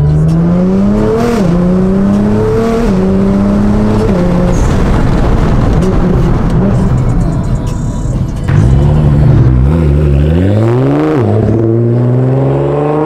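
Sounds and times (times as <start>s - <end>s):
car engine accelerating: 0.0s - 13.0s
road noise: 0.0s - 13.0s.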